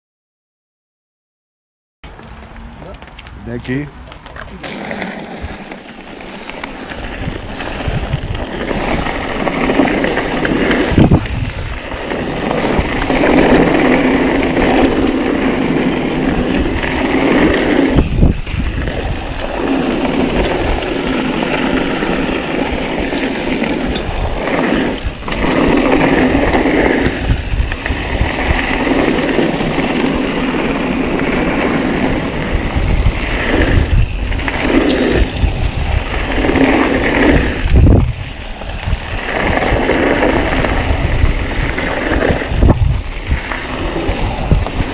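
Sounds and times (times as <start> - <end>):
tyres crunching over gravel: 2.0 - 44.9
wind noise: 2.0 - 44.9
bike rattling over bumps: 4.0 - 44.9.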